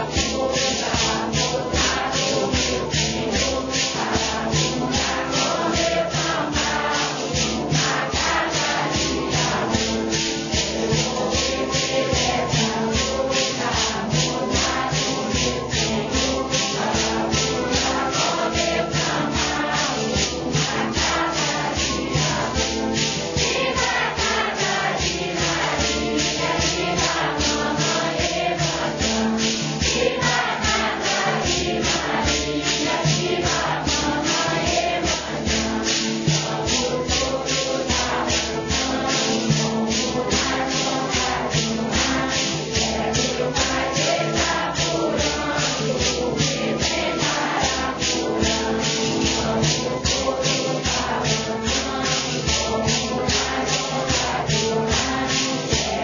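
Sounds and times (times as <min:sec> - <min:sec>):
group singing a hymn: 0:00.0 - 0:56.0
maracas rattle beat: 0:00.0 - 0:56.0.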